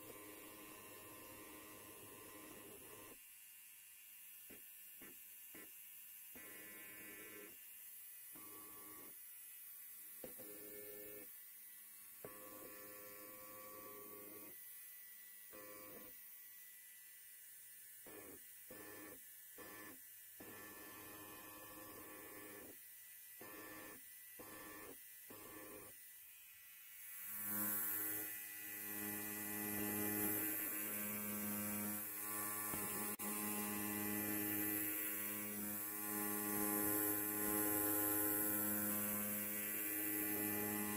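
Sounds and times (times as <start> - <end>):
electric hair clipper buzzing: 0.0 - 40.9.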